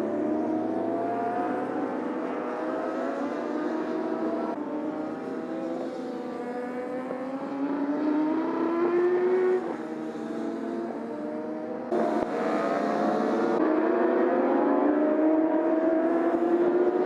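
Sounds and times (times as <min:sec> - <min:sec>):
motorcycle engines accelerating: 0:00.0 - 0:17.0.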